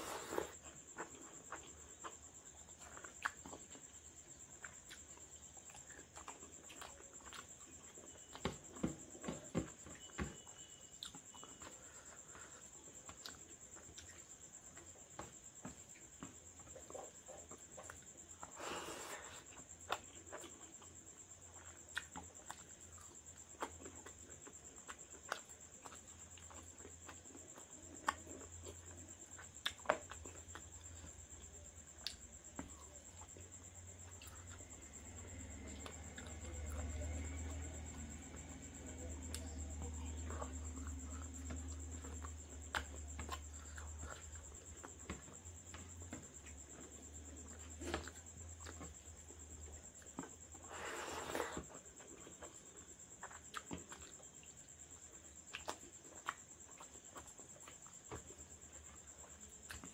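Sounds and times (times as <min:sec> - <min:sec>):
chewing with mouth clicks: 0:00.0 - 0:59.9.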